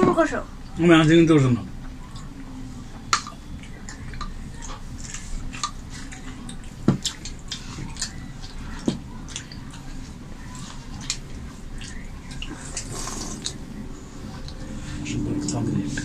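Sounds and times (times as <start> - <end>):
soft chewing: 1.8 - 15.5.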